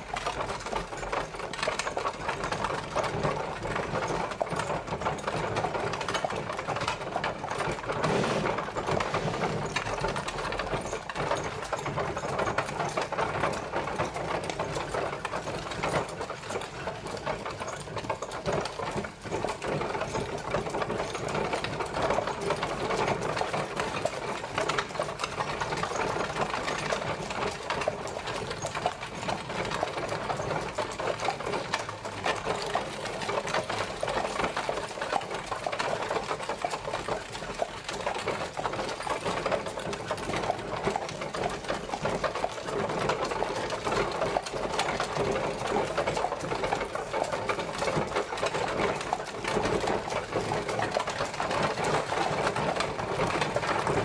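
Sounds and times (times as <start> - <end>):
carriage wheels rattling: 0.0 - 54.0.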